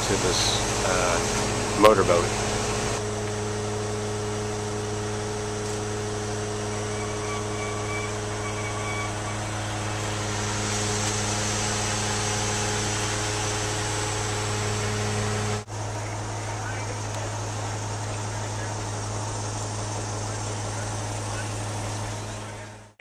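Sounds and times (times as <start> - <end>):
heavy machinery engine humming: 0.0 - 23.0.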